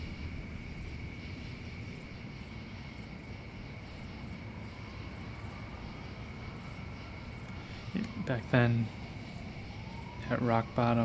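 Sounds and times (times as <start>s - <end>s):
steady low rumble: 0.0s - 10.8s
insects chirping: 0.0s - 11.0s.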